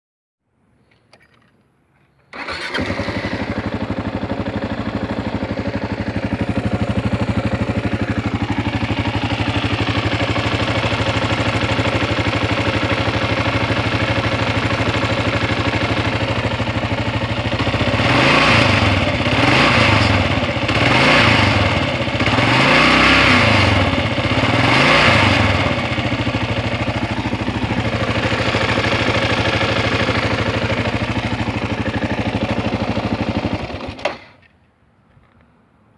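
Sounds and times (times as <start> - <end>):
motorcycle engine idling and revving: 2.3 - 34.5.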